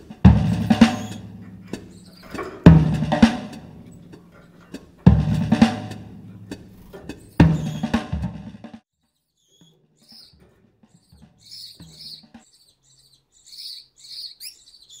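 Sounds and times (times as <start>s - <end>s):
finch chirping: 0.3s - 4.8s, 6.2s - 8.1s, 9.1s - 15.0s.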